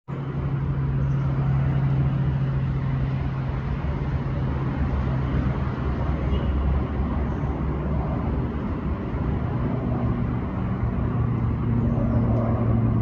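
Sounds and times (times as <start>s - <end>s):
low motor hum with rumble: 0.1s - 13.0s.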